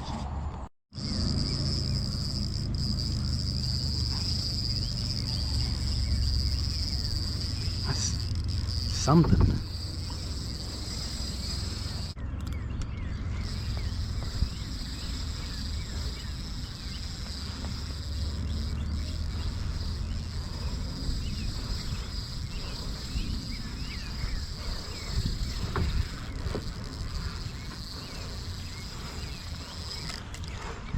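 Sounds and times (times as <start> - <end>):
bird chirps: 1.0 - 30.9
insects droning: 1.0 - 30.9.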